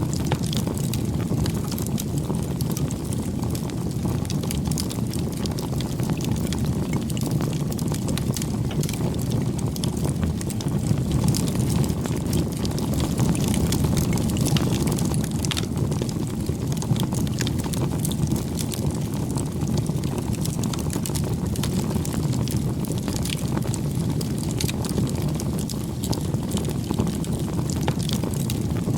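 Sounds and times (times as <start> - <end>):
burning wood crackling and popping: 0.0 - 28.9
campfire flames rumbling: 0.0 - 28.9.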